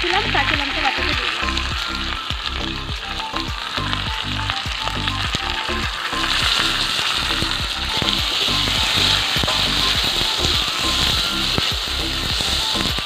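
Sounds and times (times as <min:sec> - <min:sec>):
background music with beat: 0:00.0 - 0:13.0
paste sizzling in hot oil: 0:00.0 - 0:13.0
metal spatula stirring: 0:01.4 - 0:13.0.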